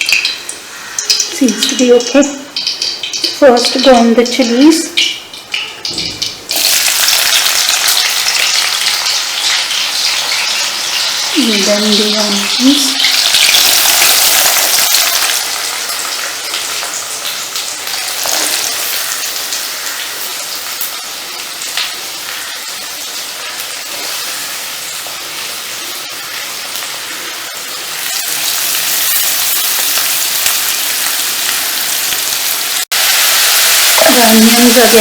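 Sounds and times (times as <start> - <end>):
onions sizzling in hot oil: 0.0 - 35.0.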